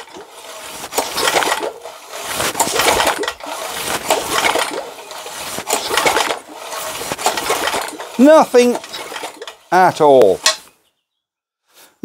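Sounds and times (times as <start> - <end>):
small engine turned over by hand: 0.0 - 10.7.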